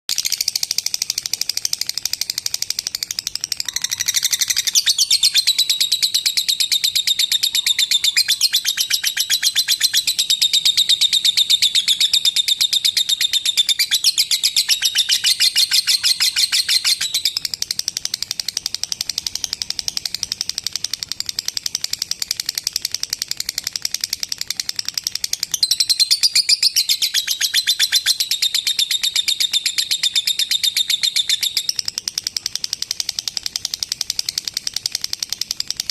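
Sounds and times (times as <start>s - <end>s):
lovebird chattering song: 0.1s - 35.9s.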